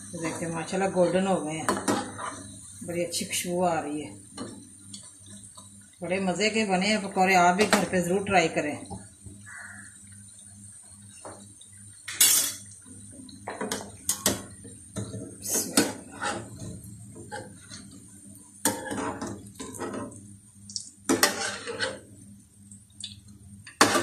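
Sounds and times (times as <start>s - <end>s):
hot oil sizzling: 0.0s - 24.0s.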